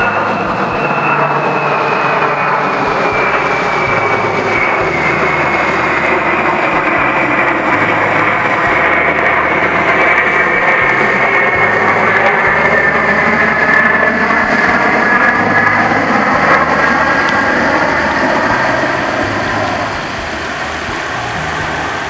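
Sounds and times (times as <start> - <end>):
jet plane passing overhead: 0.0 - 22.0.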